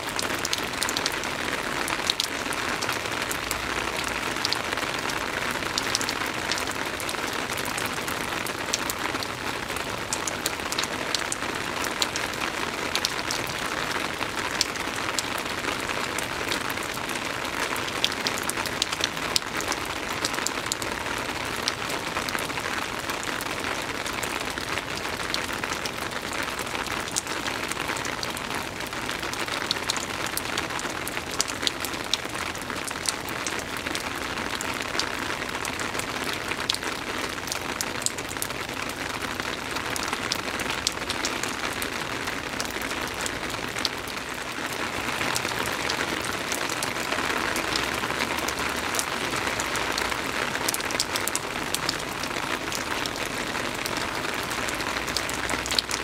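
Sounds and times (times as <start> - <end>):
soft rain falling: 0.0 - 56.0.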